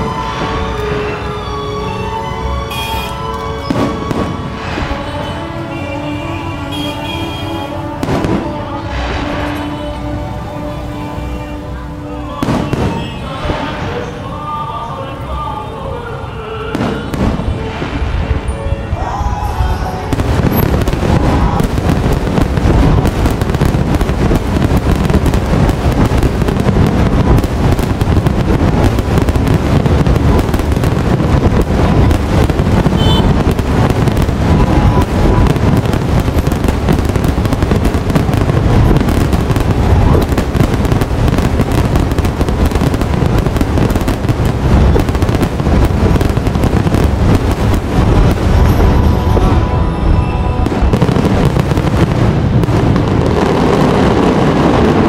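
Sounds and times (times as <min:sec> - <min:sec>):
fireworks bursts and booms: 0:03.6 - 0:11.0, 0:12.3 - 0:14.1, 0:16.6 - 0:18.5, 0:19.6 - 0:55.0.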